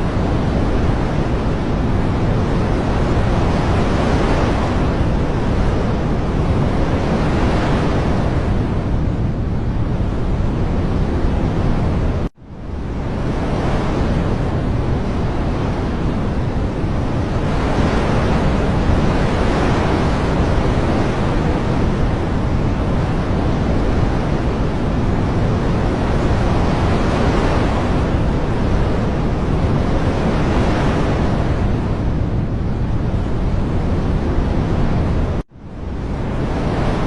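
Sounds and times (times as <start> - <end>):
rushing water or wind: 0.0 - 37.0.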